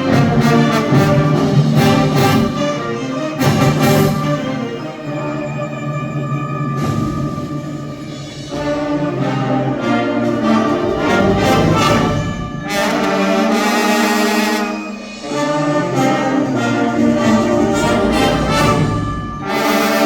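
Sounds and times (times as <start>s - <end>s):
trombones and trumpets: 0.0s - 20.0s
wind band playing: 0.0s - 20.0s.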